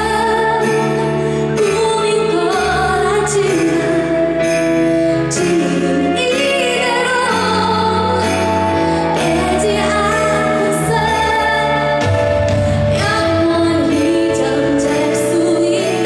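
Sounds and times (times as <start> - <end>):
instrumental accompaniment: 0.0 - 16.0
woman singing slow song: 0.0 - 16.0.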